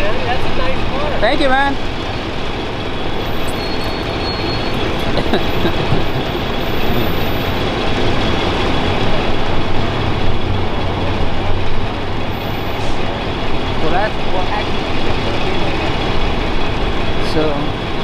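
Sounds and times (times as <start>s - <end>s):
heavy vehicle engines idling: 0.0s - 18.0s
road traffic: 0.0s - 18.0s.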